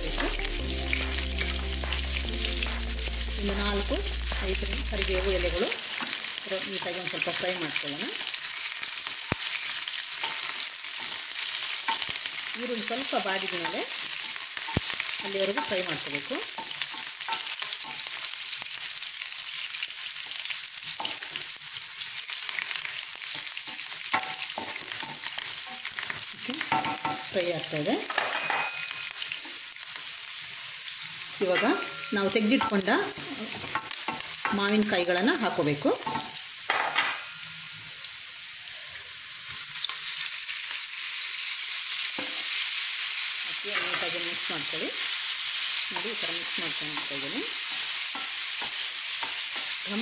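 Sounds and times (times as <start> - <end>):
food sizzling in hot oil: 0.0 - 50.0.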